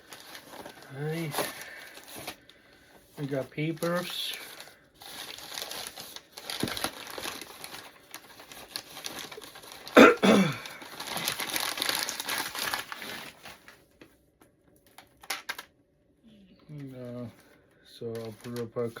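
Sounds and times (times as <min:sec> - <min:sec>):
packing paper crumpling: 0:00.0 - 0:14.0, 0:17.4 - 0:19.0.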